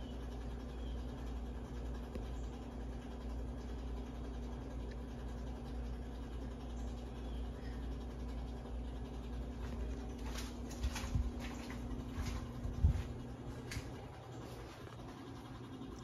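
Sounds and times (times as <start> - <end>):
ceiling fan motor hum: 0.0 - 16.0
whoosh of spinning fan blades: 0.0 - 16.0.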